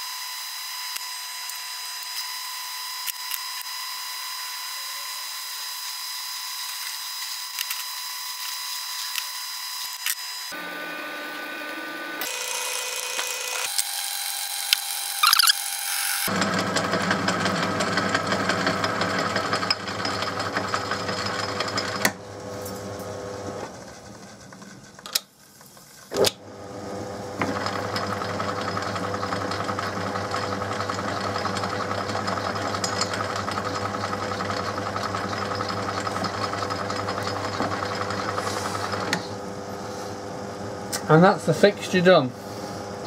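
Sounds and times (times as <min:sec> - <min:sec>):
metal lathe running: 0:00.9 - 0:23.8, 0:26.8 - 0:42.1.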